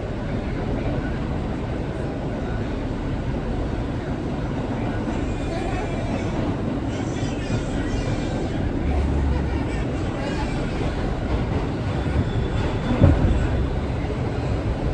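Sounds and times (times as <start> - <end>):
subway train rumbling and rattling: 0.0 - 14.9.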